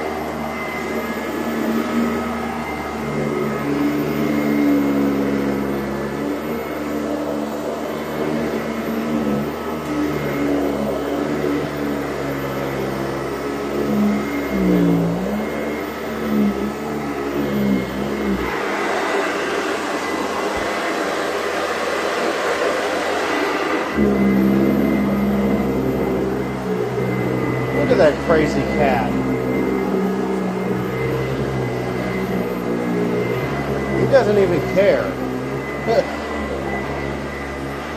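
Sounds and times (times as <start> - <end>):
vacuum cleaner motor hum: 0.0 - 37.9.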